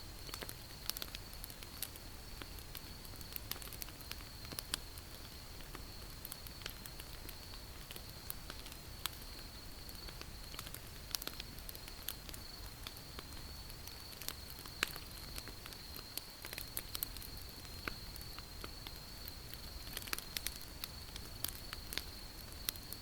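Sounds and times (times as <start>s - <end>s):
low hiss: 0.0s - 23.0s
wood fire crackling: 0.0s - 23.0s.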